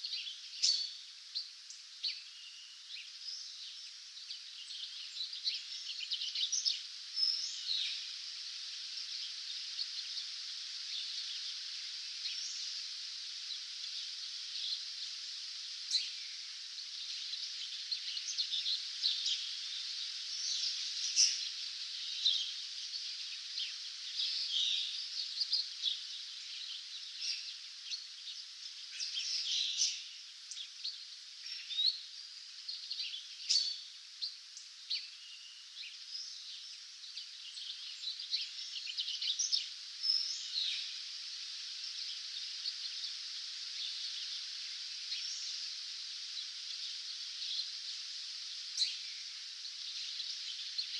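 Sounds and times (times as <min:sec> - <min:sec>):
songbirds chirping and trilling: 0:00.0 - 0:50.9
steady high hiss: 0:00.0 - 0:50.9.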